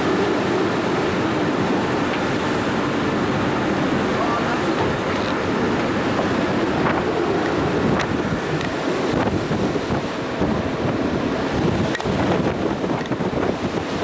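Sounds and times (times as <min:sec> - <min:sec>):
sea water rushing: 0:00.0 - 0:14.0
wind buffeting microphone: 0:00.0 - 0:14.0.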